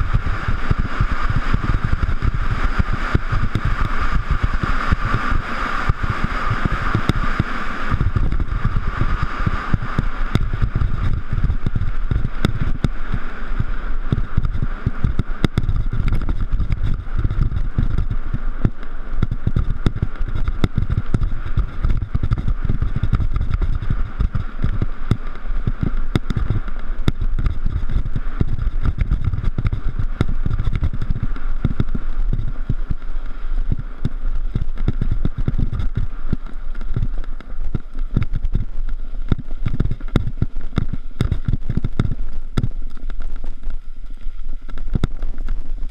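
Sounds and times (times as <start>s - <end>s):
bike clicking and rattling: 0.0s - 45.9s
wind rumbling on microphone: 0.0s - 45.9s.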